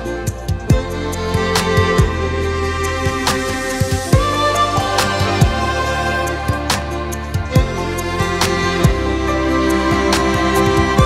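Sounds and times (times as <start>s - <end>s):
sustained string chords: 0.0s - 11.0s
deep bass hits: 0.1s - 11.0s.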